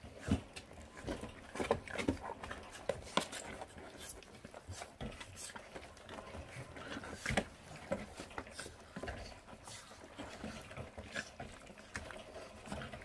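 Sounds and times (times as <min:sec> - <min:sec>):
puppies chewing meat on bone: 0:00.0 - 0:13.0.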